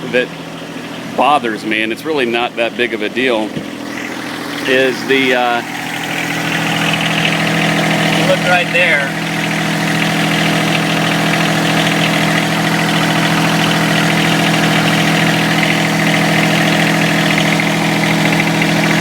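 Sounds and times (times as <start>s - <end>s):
tractor diesel engine idling: 0.0s - 19.0s.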